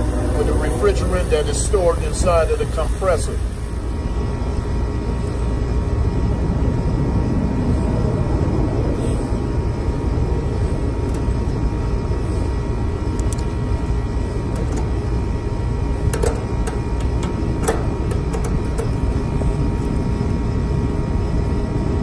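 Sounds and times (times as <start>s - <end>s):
faint constant hum: 0.0s - 22.0s
low outdoor rumble: 0.0s - 22.0s.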